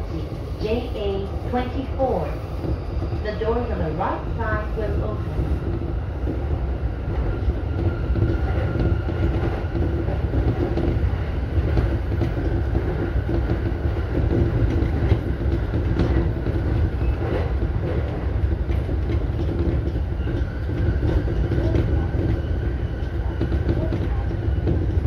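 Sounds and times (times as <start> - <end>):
train rumble from cab: 0.0 - 25.0.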